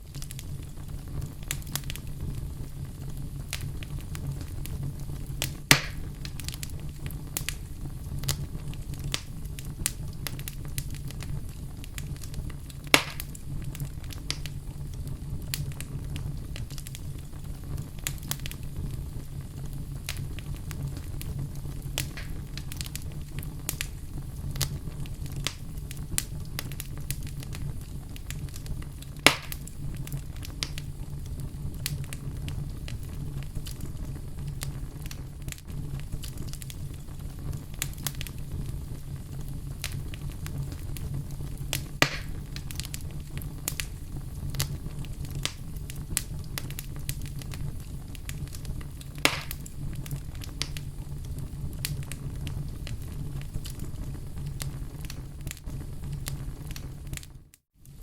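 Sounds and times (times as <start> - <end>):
loud fire pops: 0.0 - 58.0
wood fire crackling: 0.0 - 58.0.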